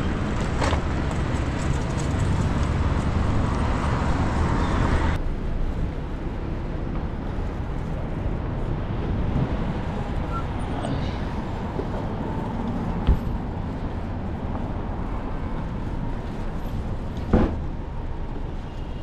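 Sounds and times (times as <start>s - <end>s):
low wind rumble: 0.0s - 19.0s
street traffic noise: 0.0s - 19.0s.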